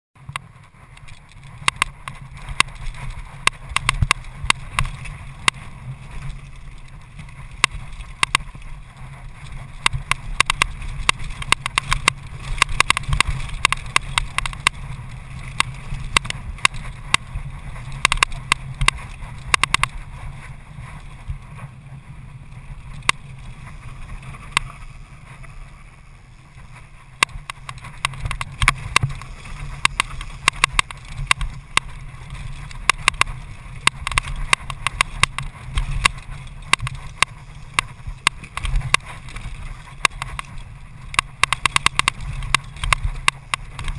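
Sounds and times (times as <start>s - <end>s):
bike rattling over rough trail: 0.2s - 43.9s
wind rumble on microphone: 0.2s - 43.9s.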